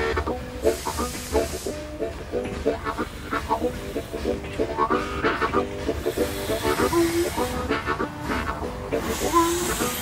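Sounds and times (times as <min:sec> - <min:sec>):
steam train hissing: 0:00.0 - 0:10.0.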